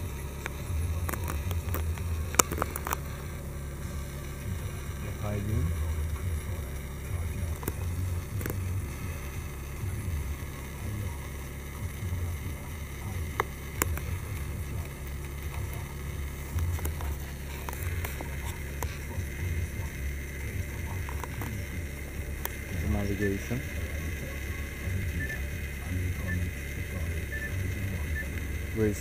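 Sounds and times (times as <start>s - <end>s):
sharp clicks: 0.0s - 5.2s, 5.9s - 29.0s
low rumble: 0.0s - 29.0s.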